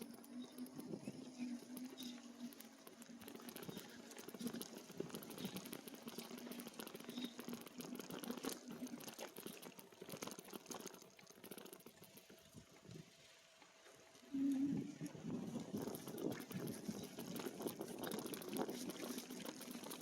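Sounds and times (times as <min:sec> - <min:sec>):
faint bike hum: 0:00.0 - 0:20.0.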